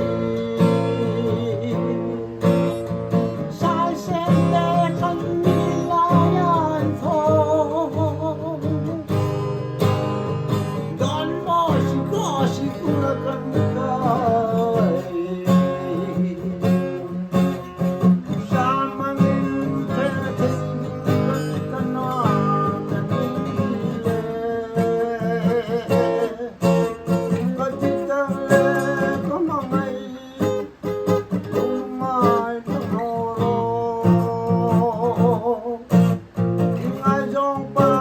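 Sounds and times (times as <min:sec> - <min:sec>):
acoustic guitar strumming: 0:00.0 - 0:38.0.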